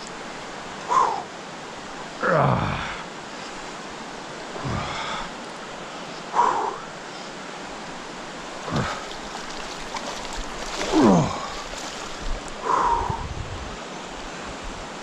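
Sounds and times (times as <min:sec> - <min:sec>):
fast-flowing river water: 0:00.0 - 0:15.0.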